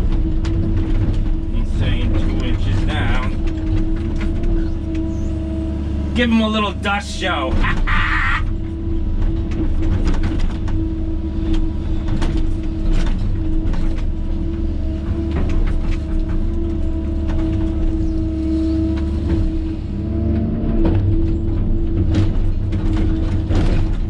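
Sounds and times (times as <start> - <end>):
excavator diesel engine under load: 0.0 - 24.0.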